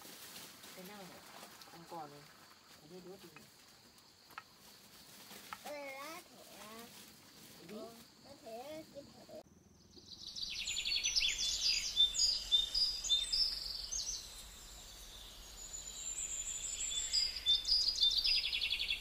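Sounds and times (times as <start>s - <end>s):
forest birds singing and chirping: 0.7s - 19.0s.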